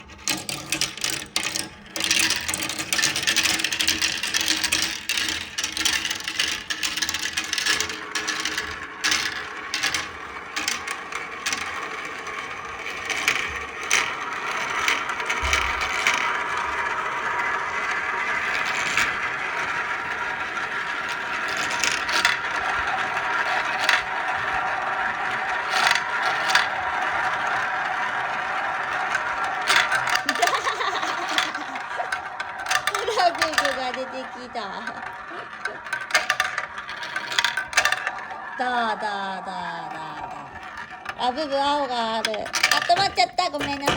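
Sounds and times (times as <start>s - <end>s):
marbles rolling on track: 0.0s - 43.9s.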